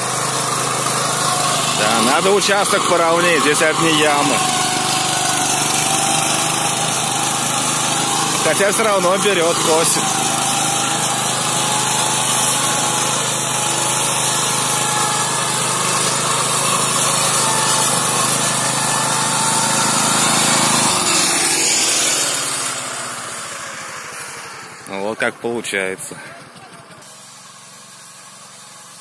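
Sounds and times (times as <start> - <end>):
tractor engine running under load: 0.0 - 28.9
rotary mower cutting grass: 0.0 - 29.0.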